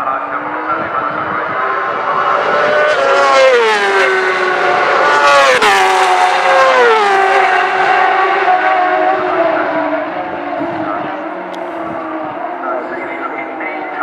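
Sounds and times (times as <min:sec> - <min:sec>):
racing motorcycles passing by: 0:00.0 - 0:14.0.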